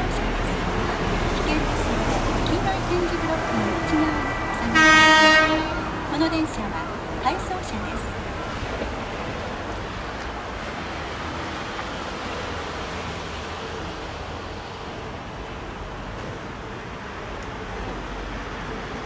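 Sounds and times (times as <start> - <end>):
railway and town ambience: 0.0 - 19.0.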